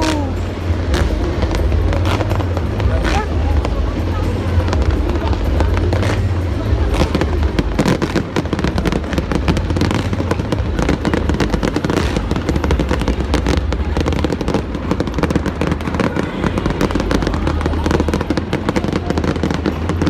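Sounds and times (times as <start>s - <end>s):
fireworks cracks and bangs: 0.0s - 20.0s
low rumble: 0.0s - 20.0s.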